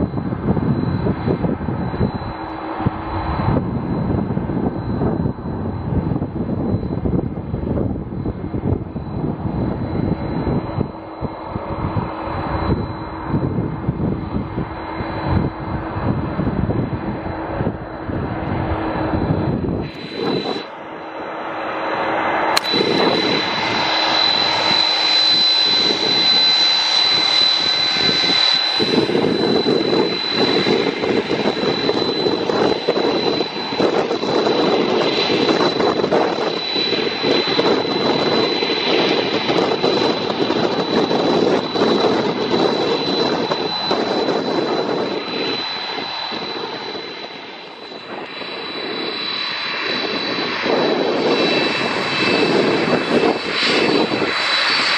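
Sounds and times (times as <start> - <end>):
jet engine roar with whine: 0.0 - 54.9.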